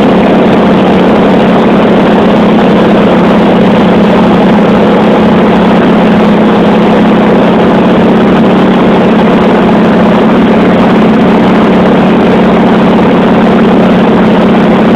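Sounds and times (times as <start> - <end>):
propeller plane engine droning: 0.0 - 14.9.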